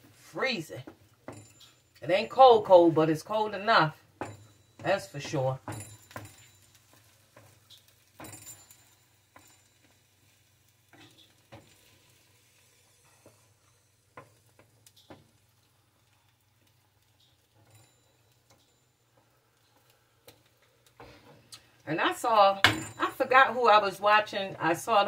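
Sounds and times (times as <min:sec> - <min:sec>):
food sizzling: 0:00.0 - 0:25.0.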